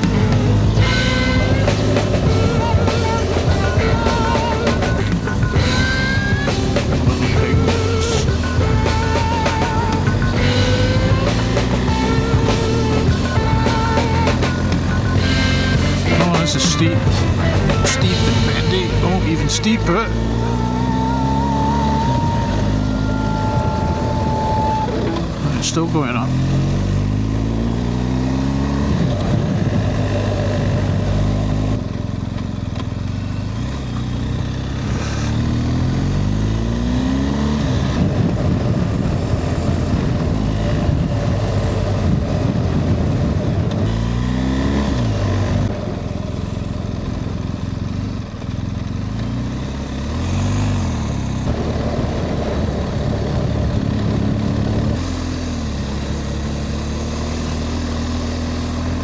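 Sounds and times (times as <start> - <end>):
motorcycle engine revving uphill: 0.0 - 59.0.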